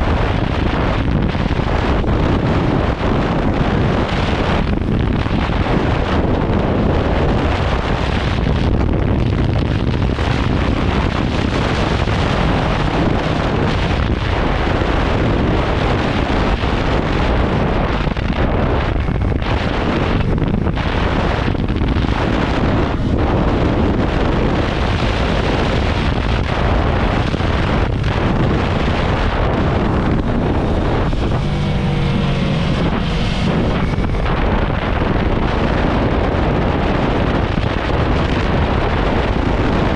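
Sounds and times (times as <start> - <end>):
motorcycle engine: 0.0 - 39.9
wind buffeting microphone: 0.0 - 39.9.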